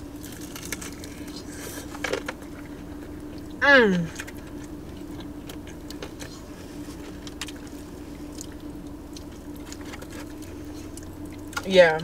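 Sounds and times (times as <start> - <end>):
close chewing and mouth sounds: 0.0 - 11.8
steady low hum: 0.0 - 12.0.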